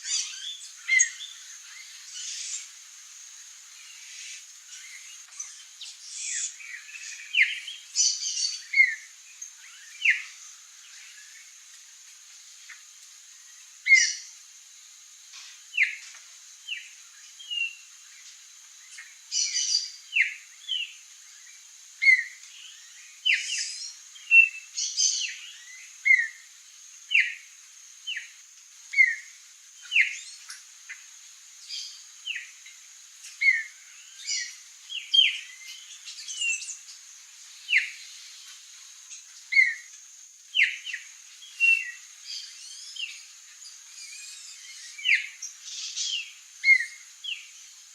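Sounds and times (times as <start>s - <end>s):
steady high hiss: 0.0s - 47.9s.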